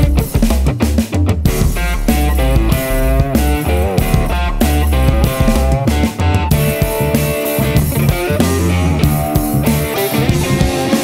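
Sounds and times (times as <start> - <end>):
drum kit: 0.0 - 11.0
electric guitar: 0.0 - 11.0.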